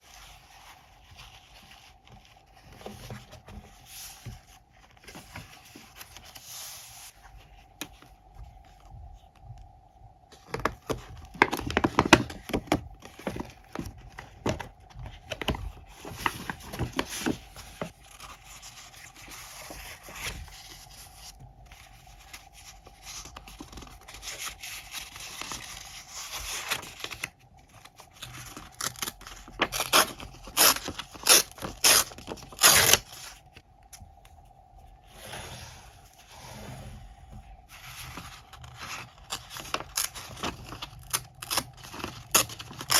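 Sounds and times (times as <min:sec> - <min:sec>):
paper rustling: 0:00.0 - 0:09.6, 0:10.4 - 0:33.6, 0:37.3 - 0:42.9.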